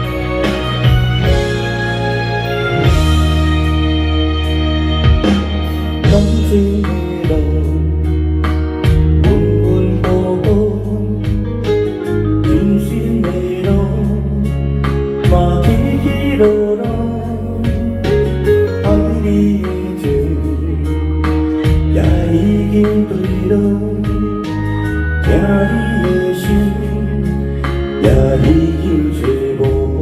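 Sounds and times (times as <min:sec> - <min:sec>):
instrumental ballad music: 0:00.0 - 0:30.0.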